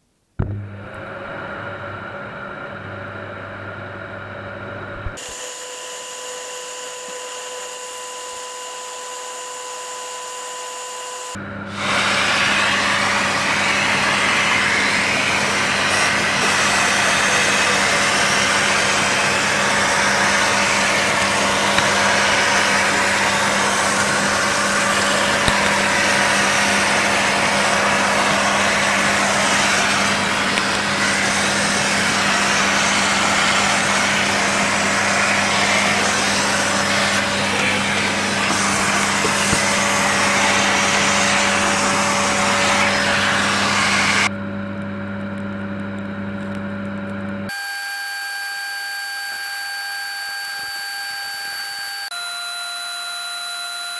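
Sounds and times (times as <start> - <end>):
vacuum cleaner running: 0.4 - 53.9.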